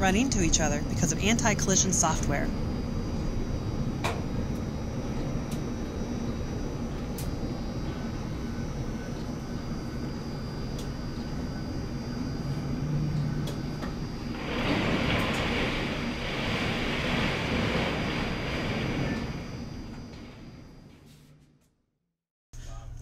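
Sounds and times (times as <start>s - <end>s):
crane machinery drone: 0.0s - 21.7s.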